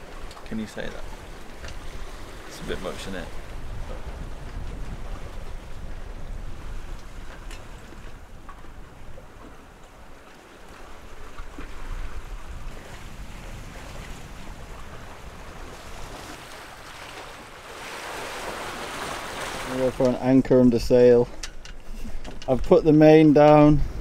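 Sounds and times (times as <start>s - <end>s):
wind buffeting microphone: 0.0s - 17.5s, 18.2s - 24.0s
water washing past hulls: 0.0s - 24.0s.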